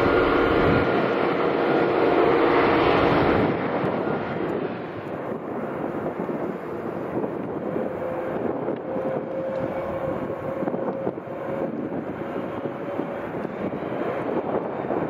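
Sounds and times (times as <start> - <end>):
jet engines taxiing: 0.0 - 15.0
wind buffeting microphone: 0.0 - 15.0.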